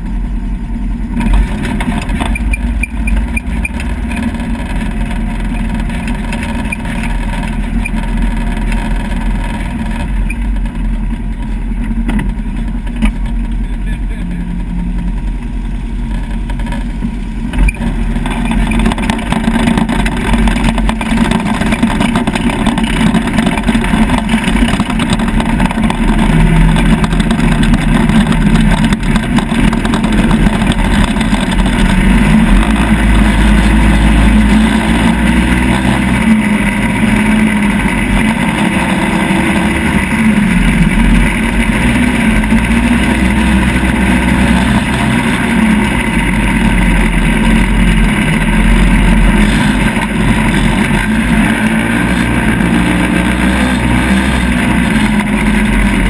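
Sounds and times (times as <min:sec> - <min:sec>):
off-road vehicle engine revving: 0:00.0 - 0:56.0
steady rushing noise: 0:00.0 - 0:56.0.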